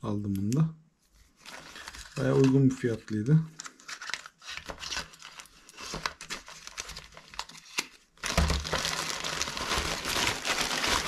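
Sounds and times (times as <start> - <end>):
plastic bags crinkling: 1.4 - 11.0.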